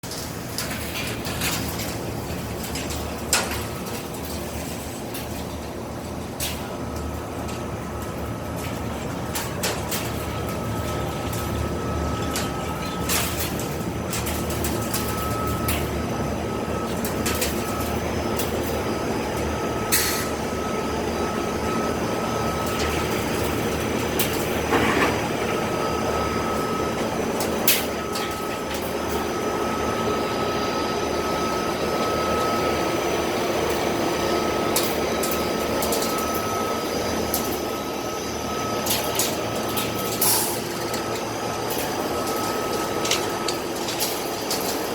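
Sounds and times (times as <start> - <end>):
high machine whine: 0.0 - 44.9
recycling machinery running: 0.0 - 44.9.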